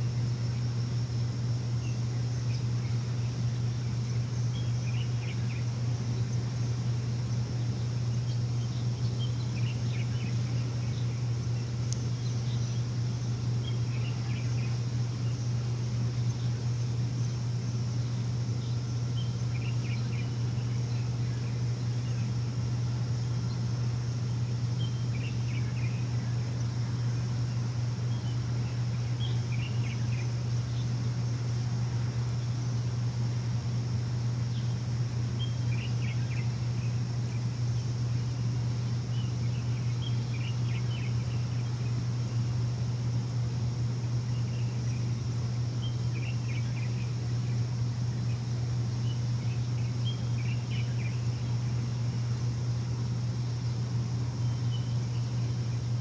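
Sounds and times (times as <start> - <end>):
bird chirping: 0.0 - 33.0, 33.9 - 43.0, 43.9 - 56.0
low machine hum: 0.0 - 56.0.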